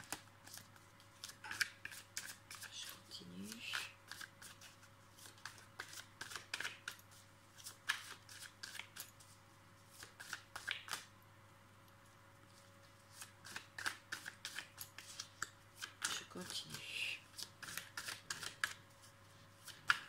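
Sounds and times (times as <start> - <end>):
cards being shuffled: 0.0 - 9.3, 9.9 - 11.1, 13.1 - 18.8, 19.6 - 20.0.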